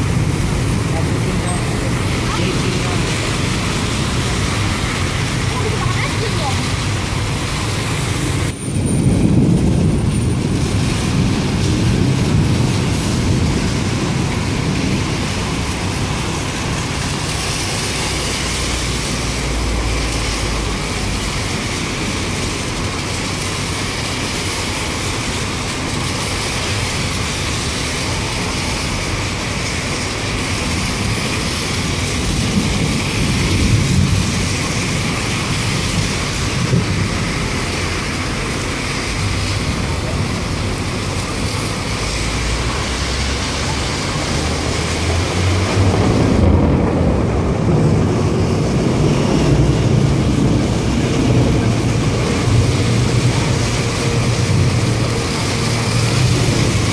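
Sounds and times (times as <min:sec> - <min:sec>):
low traffic rumbling: 0:00.0 - 0:56.9
rain hissing: 0:00.0 - 0:56.9
tyres on wet road: 0:00.0 - 0:56.9.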